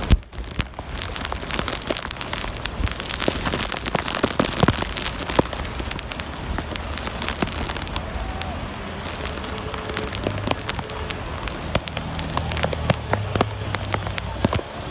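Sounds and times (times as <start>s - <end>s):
rain falling: 0.0s - 14.9s.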